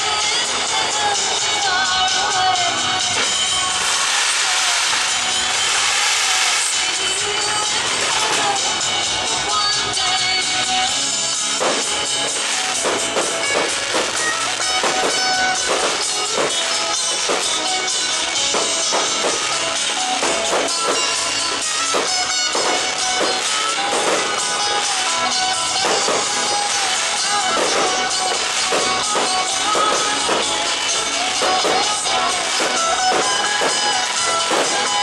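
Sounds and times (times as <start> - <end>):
loud music with regular beat: 0.0 - 35.0.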